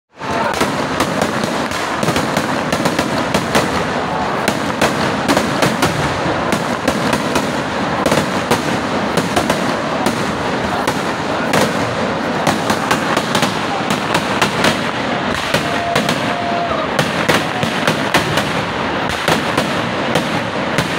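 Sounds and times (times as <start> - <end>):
fireworks bangs: 0.1 - 20.9
fireworks crackle: 0.1 - 20.9.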